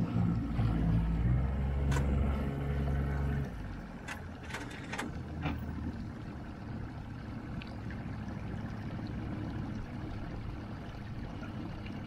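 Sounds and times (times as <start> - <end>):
boat wake wash: 0.0 - 12.0
outboard motor low rumble: 0.0 - 12.0.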